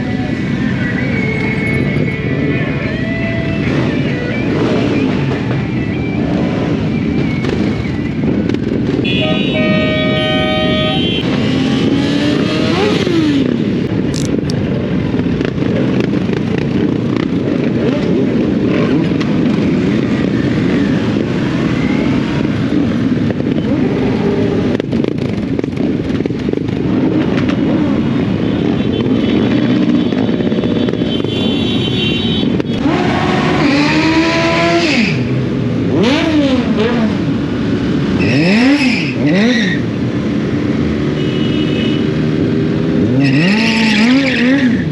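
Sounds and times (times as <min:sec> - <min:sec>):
motorcycle engine revving: 0:01.6 - 0:44.9.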